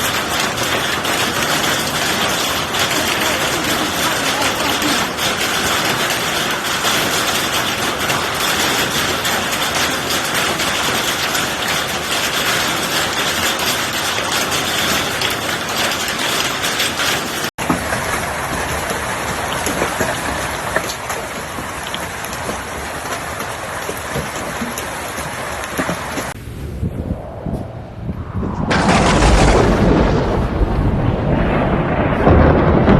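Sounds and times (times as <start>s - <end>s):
hail and heavy rain pelting: 0.0s - 26.4s, 28.7s - 32.9s.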